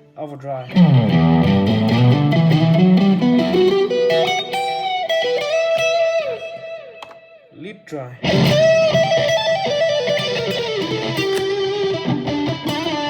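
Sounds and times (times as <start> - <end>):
overdriven electric guitar riff: 0.7 - 7.5, 8.2 - 13.0.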